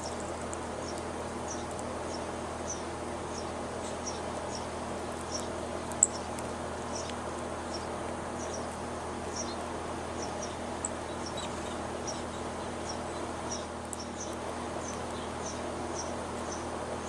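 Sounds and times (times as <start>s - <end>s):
low background hum: 0.0s - 17.0s
small birds chirping: 0.0s - 17.0s.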